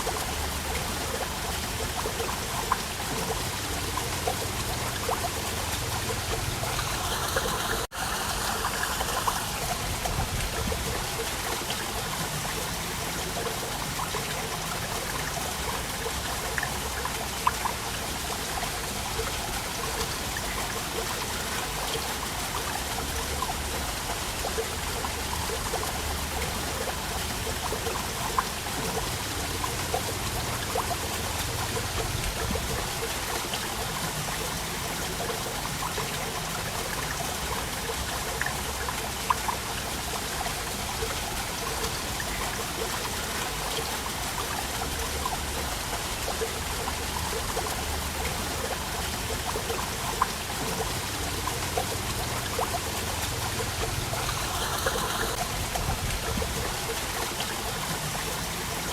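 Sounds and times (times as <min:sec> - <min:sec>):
waterfall splashing: 0:00.0 - 0:58.9.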